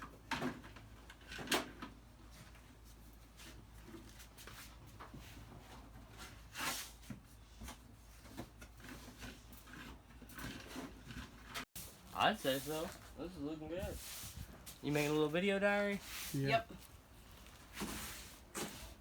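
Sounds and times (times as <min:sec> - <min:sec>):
knocks and rustles of handling: 0:00.0 - 0:13.2, 0:13.8 - 0:19.0.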